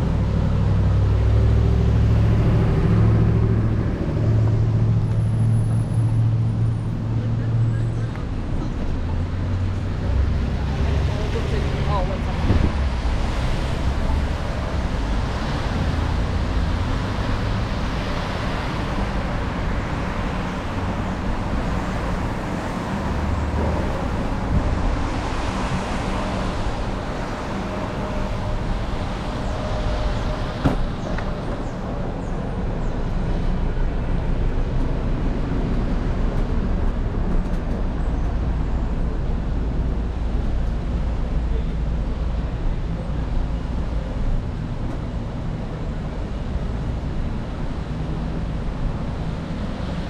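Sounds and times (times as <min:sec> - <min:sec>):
vehicles passing on wet road: 0:00.0 - 0:50.0.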